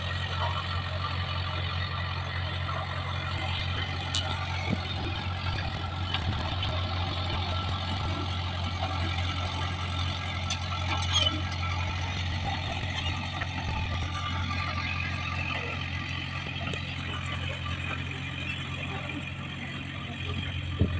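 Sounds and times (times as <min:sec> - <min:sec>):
bulldozer diesel engine droning: 0:00.0 - 0:20.9.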